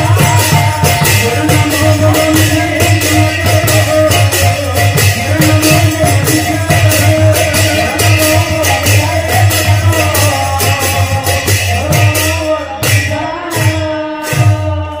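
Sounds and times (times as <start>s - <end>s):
barrel drum beating: 0.0s - 13.8s
hand cymbals clashing: 0.0s - 15.0s.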